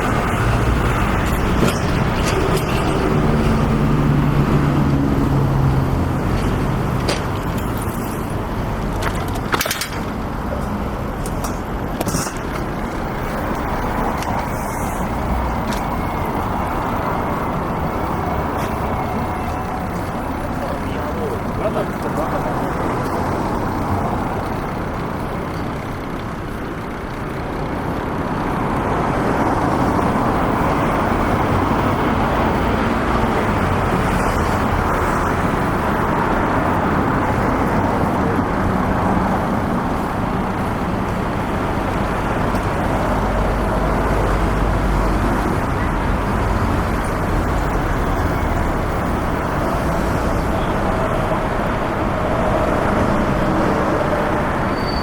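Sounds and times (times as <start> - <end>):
city road traffic: 0.0 - 55.0.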